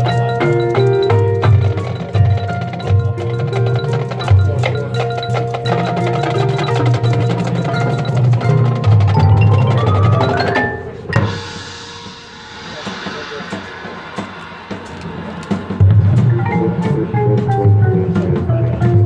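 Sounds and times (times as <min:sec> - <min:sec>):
school band music: 0:00.0 - 0:19.0.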